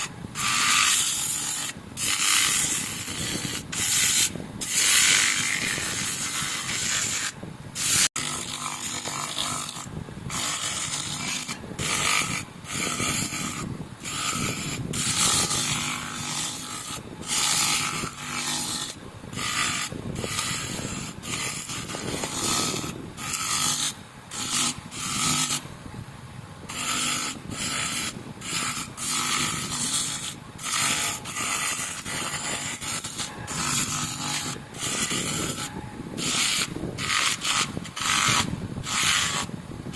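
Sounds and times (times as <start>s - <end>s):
sanding metal brake cover: 0.0s - 25.7s, 26.7s - 39.9s.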